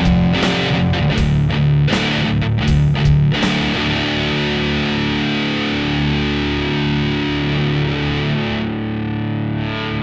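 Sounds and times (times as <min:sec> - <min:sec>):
distorted electric guitar chord: 0:00.0 - 0:10.0.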